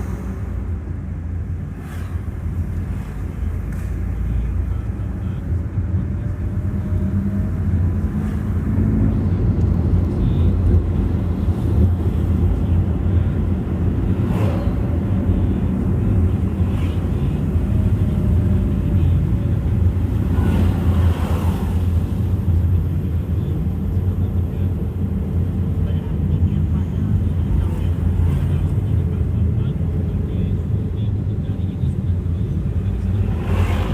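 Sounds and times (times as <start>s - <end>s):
road noise: 0.0s - 33.9s
vehicle engine rumble: 0.0s - 33.9s.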